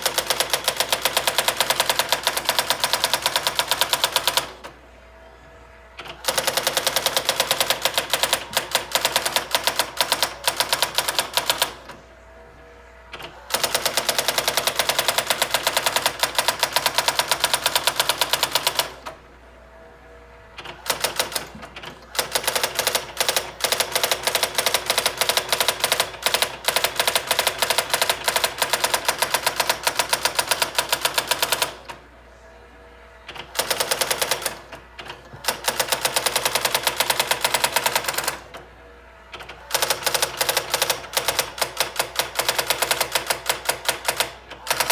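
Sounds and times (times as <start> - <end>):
electronic typewriter strikes: 0.0 - 4.8, 6.0 - 12.0, 13.1 - 19.2, 20.6 - 32.0, 33.3 - 38.6, 39.3 - 44.9
typewriter motor hum: 0.0 - 4.8, 6.0 - 12.0, 13.1 - 19.2, 20.6 - 32.0, 33.3 - 38.7, 39.3 - 44.9.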